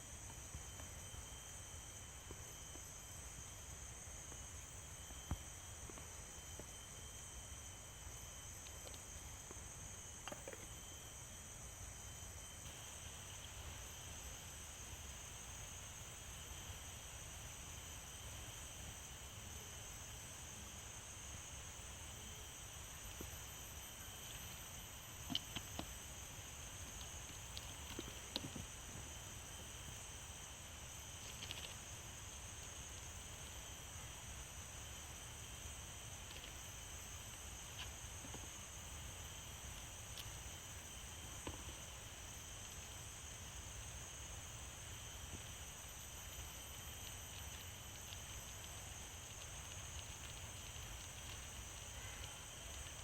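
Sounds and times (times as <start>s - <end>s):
insects droning and trilling: 0.0s - 53.0s.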